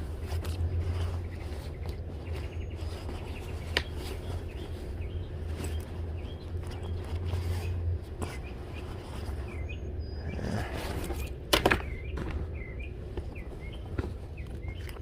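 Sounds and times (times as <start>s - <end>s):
birds chirping faintly: 0.0s - 15.0s
steady low hum: 0.0s - 15.0s.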